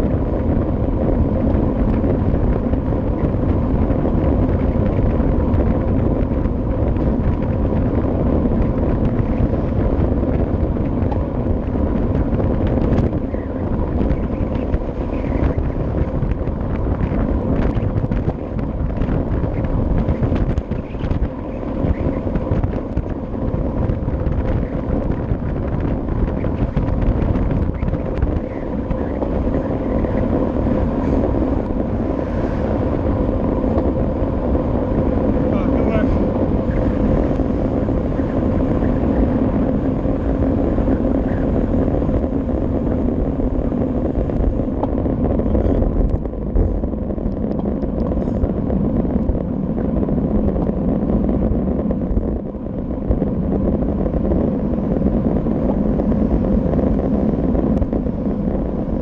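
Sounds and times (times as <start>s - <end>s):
tyre and road rumble: 0.0s - 59.0s
wind buffeting microphone: 0.0s - 59.0s.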